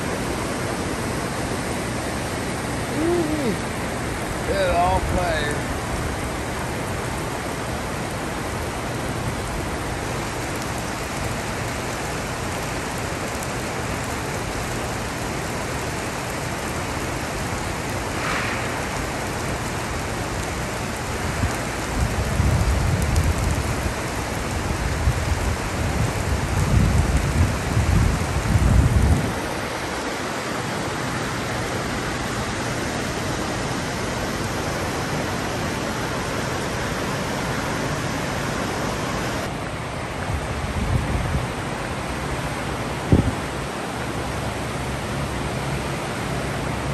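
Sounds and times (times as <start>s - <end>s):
floodwater rushing: 0.0s - 46.9s
rain: 0.0s - 46.9s.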